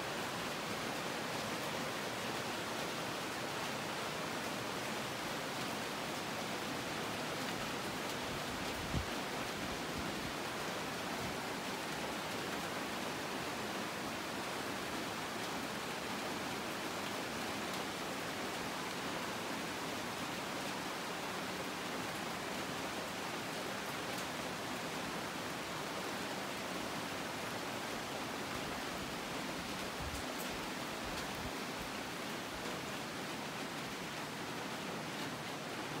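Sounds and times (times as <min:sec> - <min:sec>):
rain on foliage: 0:00.0 - 0:36.0.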